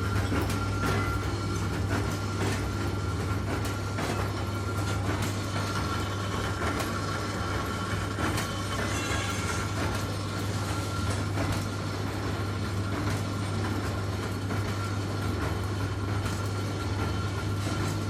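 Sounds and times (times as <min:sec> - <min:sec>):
lathe machine hum: 0:00.0 - 0:18.0.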